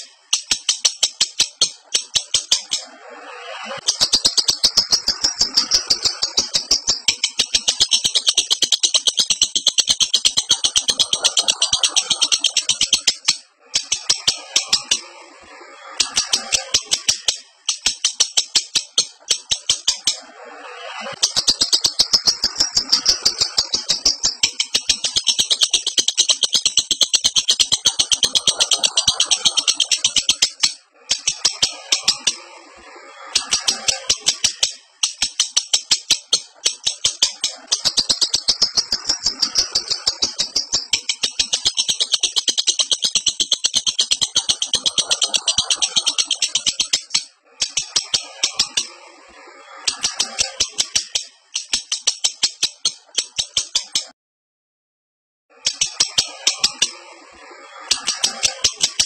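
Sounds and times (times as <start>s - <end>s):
lovebird chattering call: 0.0s - 15.1s, 16.0s - 20.3s, 20.9s - 32.4s, 33.4s - 49.0s, 49.9s - 54.1s, 55.6s - 57.0s, 57.8s - 59.0s
soft bird chatter: 0.0s - 54.1s, 55.6s - 59.0s.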